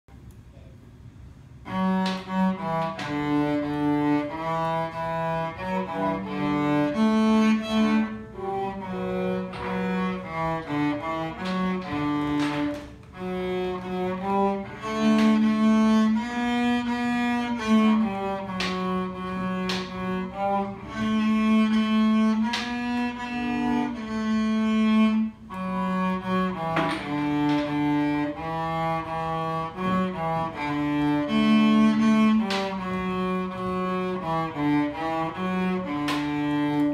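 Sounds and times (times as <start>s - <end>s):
bowed cello melody: 1.5s - 36.9s.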